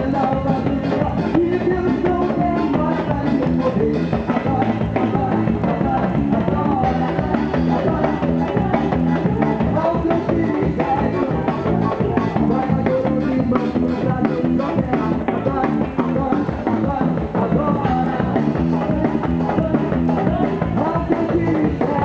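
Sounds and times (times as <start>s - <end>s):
drum kit beat: 0.0s - 22.0s
gospel band playing: 0.0s - 22.0s
person singing: 0.0s - 22.0s.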